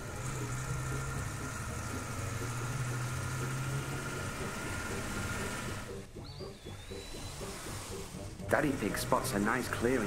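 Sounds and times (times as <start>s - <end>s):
cartoon van engine drone: 0.0s - 10.0s.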